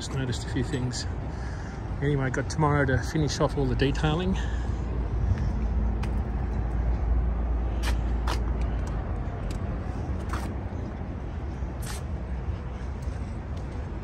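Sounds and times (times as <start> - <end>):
truck diesel engines rumbling: 0.0 - 14.0.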